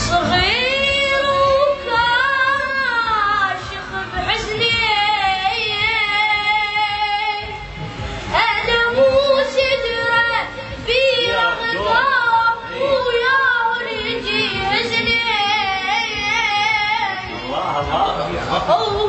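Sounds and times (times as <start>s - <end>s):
high voice singing with vibrato: 0.0s - 19.0s.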